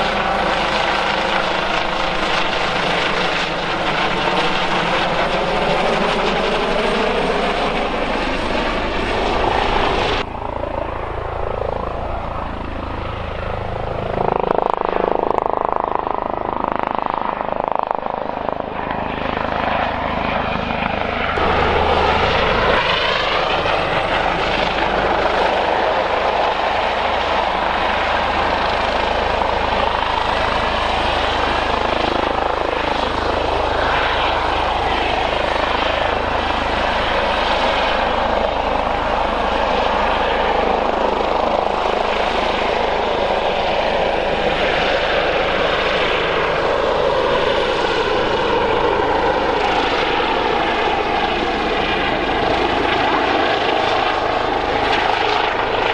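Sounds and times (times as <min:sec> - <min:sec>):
helicopter engines and rotors: 0:00.0 - 0:55.9.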